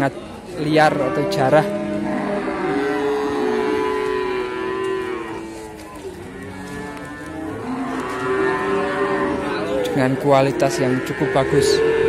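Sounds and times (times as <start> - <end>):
cattle mooing: 0.7 - 12.0.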